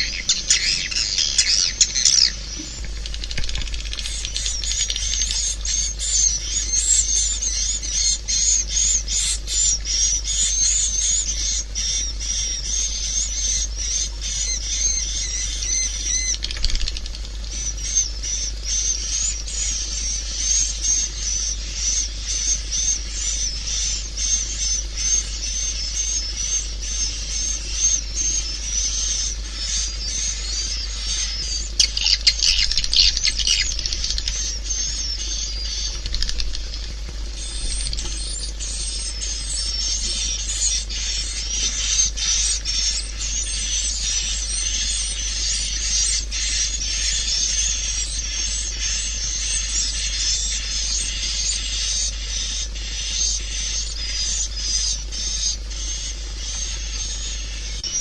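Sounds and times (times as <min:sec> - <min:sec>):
steady low hum: 0:00.0 - 0:58.0
swiftlets twittering: 0:00.0 - 0:58.0.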